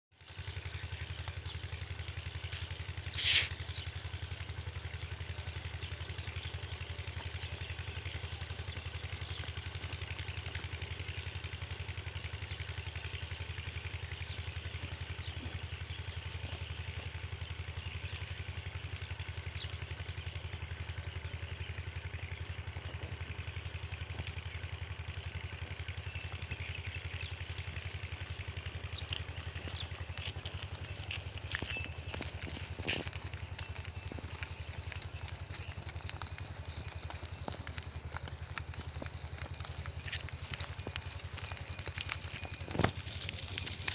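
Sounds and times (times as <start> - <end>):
small engine idling: 0.1 - 43.9.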